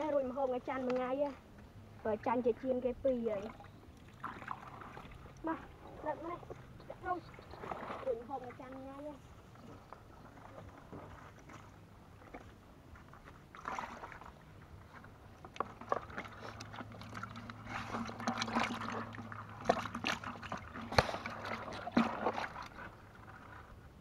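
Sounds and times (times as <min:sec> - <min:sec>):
water splashing in a bucket: 0:02.0 - 0:23.8.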